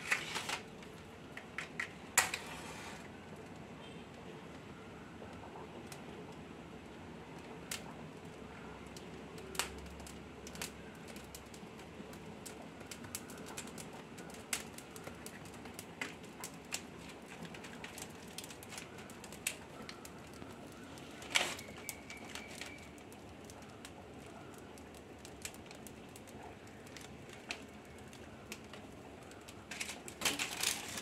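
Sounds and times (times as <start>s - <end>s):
sharp snaps of burning leaves: 0.0s - 3.6s, 7.4s - 31.0s
dry palm leaves crackling in fire: 0.0s - 31.0s.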